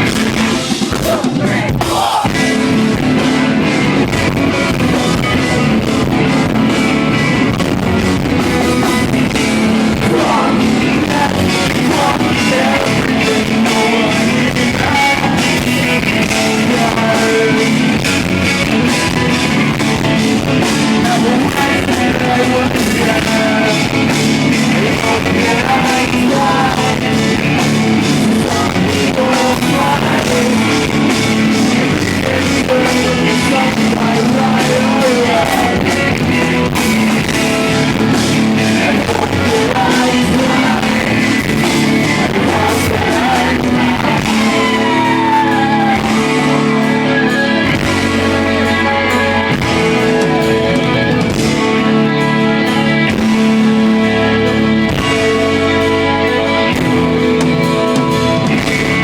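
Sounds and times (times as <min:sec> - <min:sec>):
person singing and yelling: 0:00.0 - 0:02.9, 0:08.4 - 0:57.3
live rock band playing: 0:00.0 - 0:59.0.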